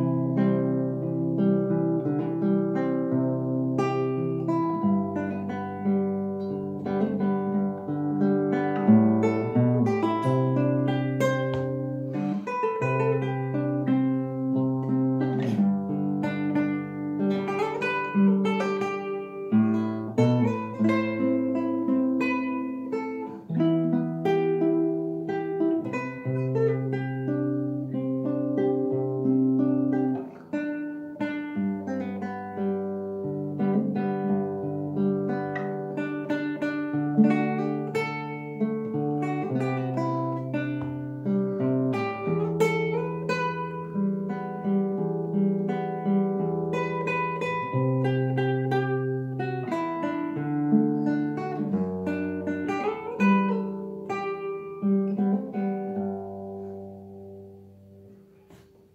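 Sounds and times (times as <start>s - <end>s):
fingerpicked classical guitar: 0.0s - 58.9s.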